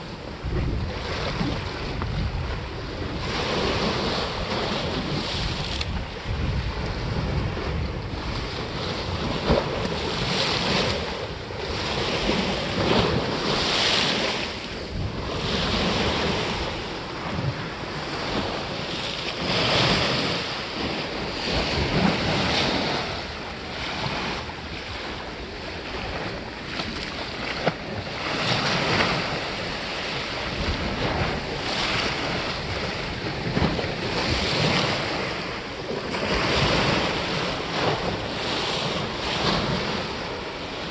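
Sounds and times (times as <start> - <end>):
waves washing against stone: 0.0 - 40.9
wind buffeting microphone: 0.0 - 40.9.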